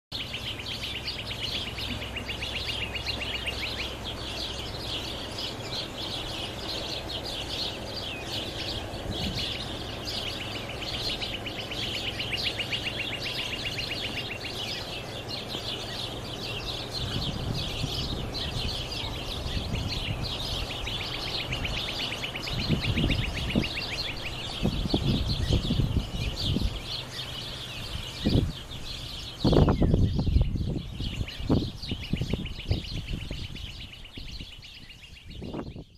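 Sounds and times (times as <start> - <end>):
birds chirping and trilling: 0.1 - 35.9
boat engine drone: 0.2 - 29.4.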